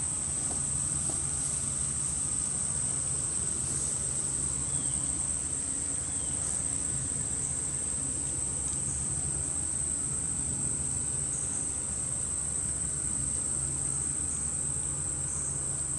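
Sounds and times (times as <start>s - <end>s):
high-pitched insect chorus: 0.0s - 15.9s.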